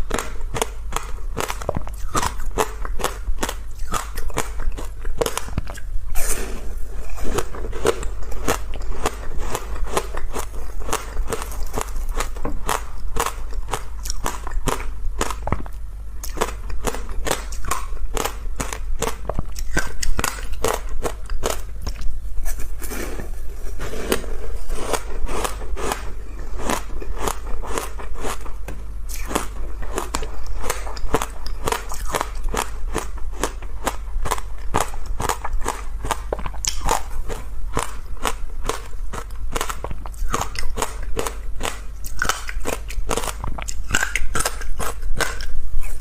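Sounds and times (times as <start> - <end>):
ice being chewed: 0.0 - 46.0.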